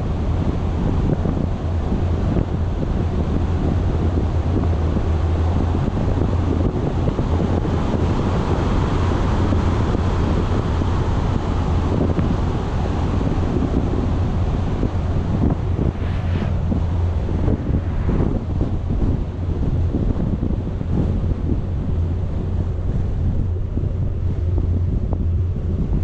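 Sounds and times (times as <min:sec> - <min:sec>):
low vehicle rumble: 0:00.0 - 0:26.0
wind buffeting microphone: 0:00.0 - 0:26.0.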